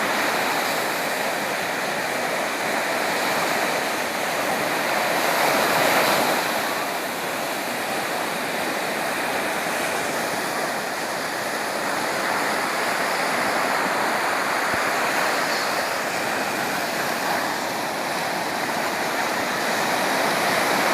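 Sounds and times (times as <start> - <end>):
sea waves washing: 0.0 - 20.9.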